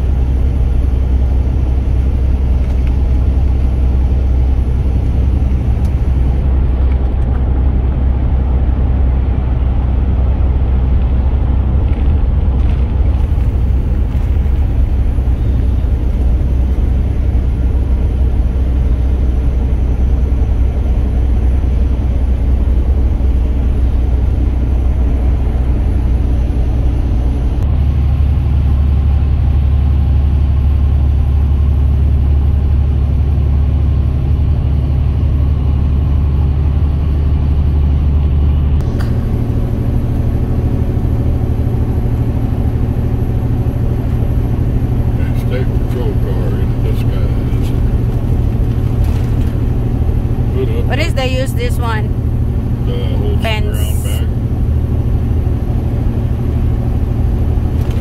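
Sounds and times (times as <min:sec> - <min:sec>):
road noise inside cab: 0:00.0 - 0:58.0
truck engine rumble: 0:00.0 - 0:58.0.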